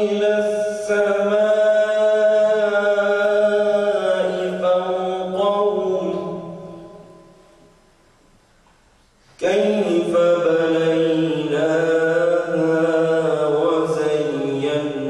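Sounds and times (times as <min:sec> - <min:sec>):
man reciting melodically: 0:00.0 - 0:07.4, 0:09.4 - 0:15.0.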